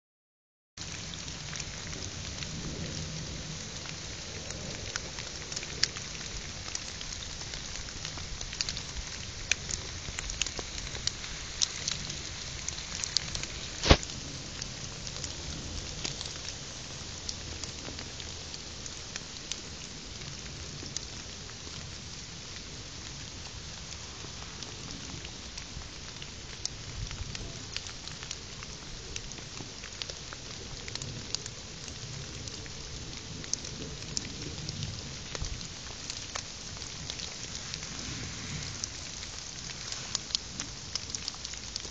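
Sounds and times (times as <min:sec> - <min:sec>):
rain on leaf litter: 0:00.8 - 0:41.9.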